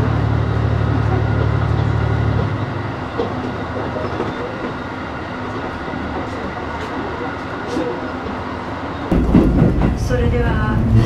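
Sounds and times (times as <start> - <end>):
train rumble: 0.0 - 11.0
wheels clacking over rails: 0.0 - 11.0.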